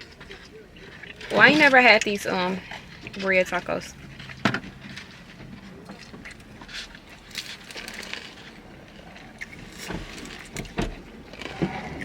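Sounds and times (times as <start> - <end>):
chewing and crunching: 0.0 - 12.0.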